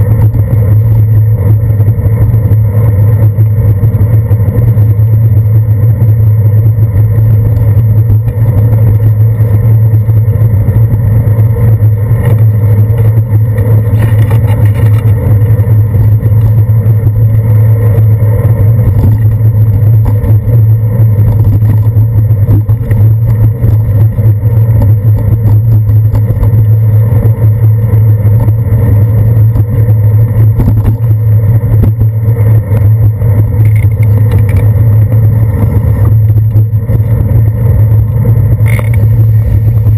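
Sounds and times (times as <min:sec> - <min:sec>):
bicycle rolling over wet pavement: 0:06.0 - 0:39.9.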